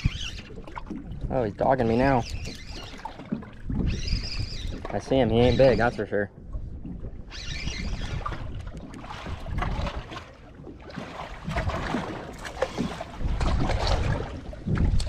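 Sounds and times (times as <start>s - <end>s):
water sloshing against a boat: 0.0s - 15.0s
wind buffeting the microphone: 0.0s - 15.0s.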